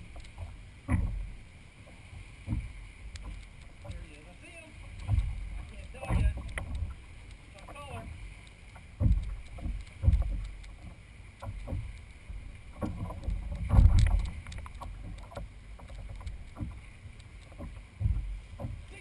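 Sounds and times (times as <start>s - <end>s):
low thumps and knocks: 0.0s - 4.1s, 4.8s - 8.1s, 8.7s - 19.0s
water slapping kayak hull: 0.0s - 19.0s.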